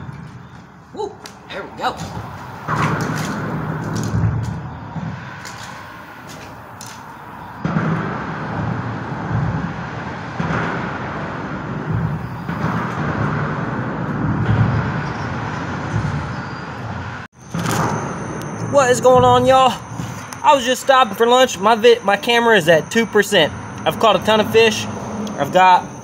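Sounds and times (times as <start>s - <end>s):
traffic rumbling over bridge: 0.0s - 26.0s.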